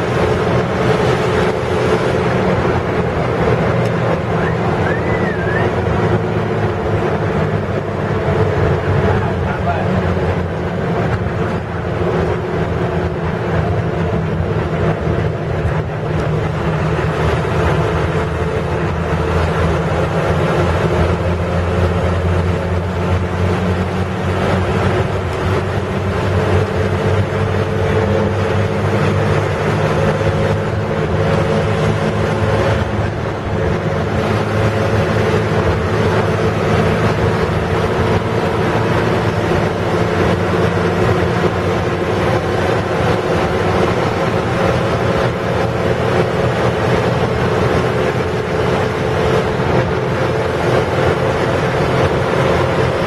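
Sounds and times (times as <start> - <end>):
bus diesel engine running: 0.0 - 53.0
road and wind noise: 0.0 - 53.0.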